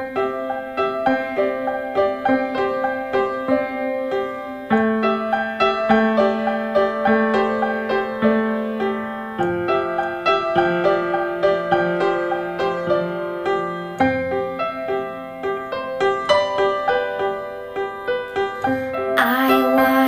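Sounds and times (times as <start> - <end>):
solo piano broken chords: 0.0 - 20.0.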